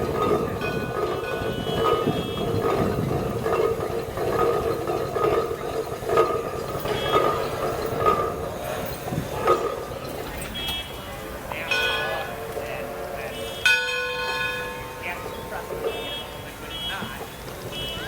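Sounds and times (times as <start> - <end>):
train bell ringing: 0.0 - 18.0
train rumble and rattle: 0.0 - 18.0.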